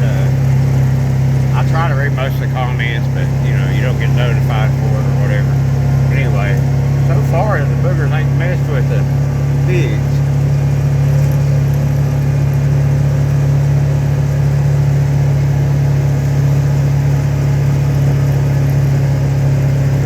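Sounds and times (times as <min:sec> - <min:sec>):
vehicle engine humming steadily: 0:00.0 - 0:20.0.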